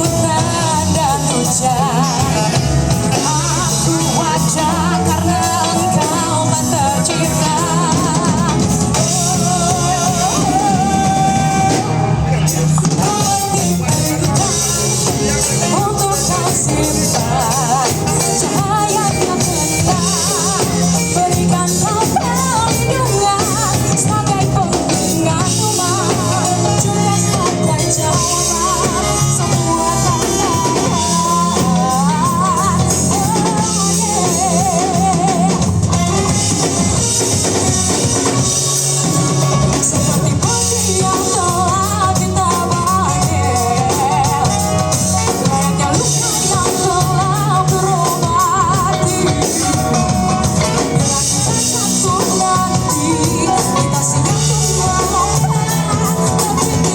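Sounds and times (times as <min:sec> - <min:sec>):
bass: 0:00.0 - 0:56.9
drum kit: 0:00.0 - 0:56.9
guitar: 0:00.0 - 0:56.9
lead singer: 0:00.0 - 0:56.9.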